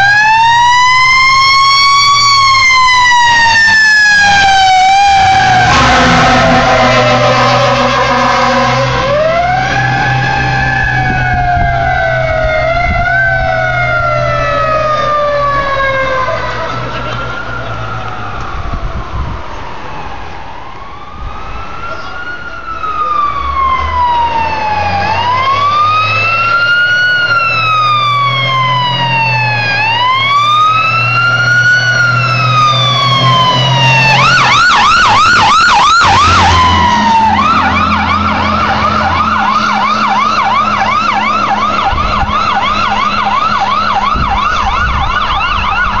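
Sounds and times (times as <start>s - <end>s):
fire truck siren: 0.0s - 46.0s.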